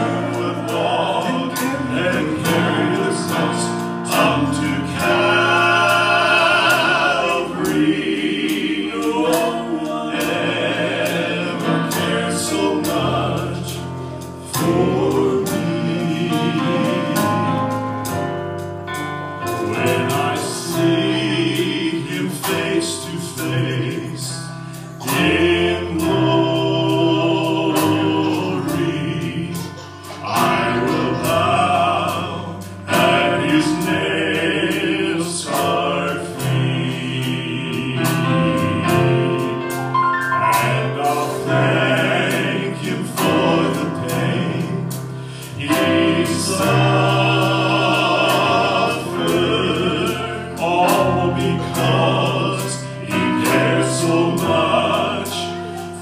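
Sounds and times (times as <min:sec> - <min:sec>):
drums: 0:00.0 - 0:56.0
male vocal group singing gospel: 0:00.0 - 0:56.0
piano: 0:00.0 - 0:56.0.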